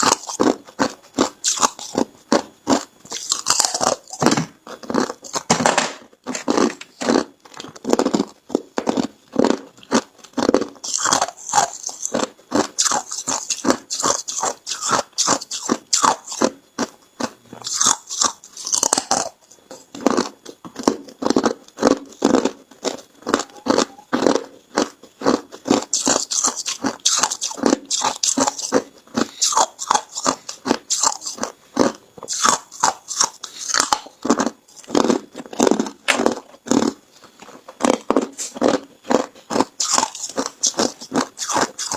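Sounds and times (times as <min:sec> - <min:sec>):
ice being chewed: 0:00.0 - 0:05.5, 0:06.2 - 0:41.9.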